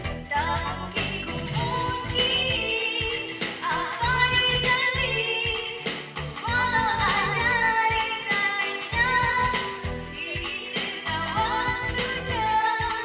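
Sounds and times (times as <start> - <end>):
backing track with steady beat: 0.0 - 13.0
girl singing pop ballad: 0.0 - 13.0.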